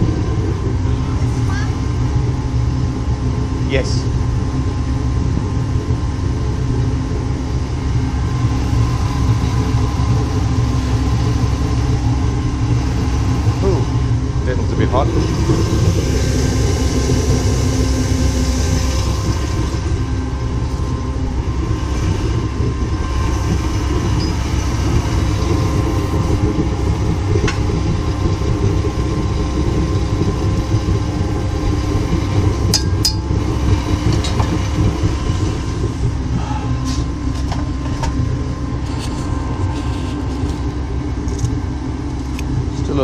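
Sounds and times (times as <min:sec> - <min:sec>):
gas burners rushing: 0:00.0 - 0:43.0.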